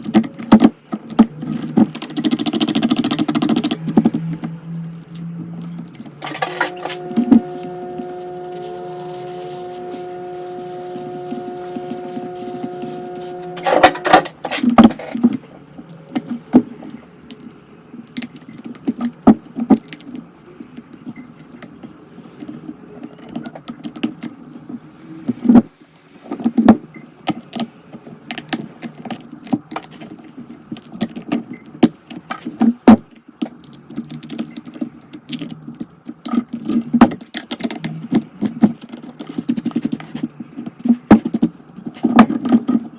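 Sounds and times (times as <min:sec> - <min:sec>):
tools clicking and scraping on glass: 0:00.0 - 0:26.6, 0:27.2 - 0:42.9
steady electrical hum: 0:00.0 - 0:42.9.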